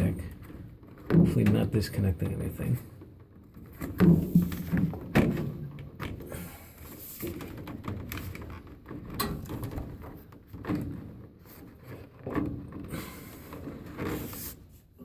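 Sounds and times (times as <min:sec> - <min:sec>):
knocks scrapes and rustles: 0:00.0 - 0:15.0.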